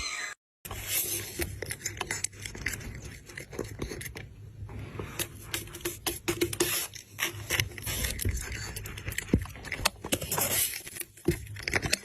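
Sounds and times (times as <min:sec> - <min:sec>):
kittens scrabbling and scratching: 0:00.7 - 0:12.0.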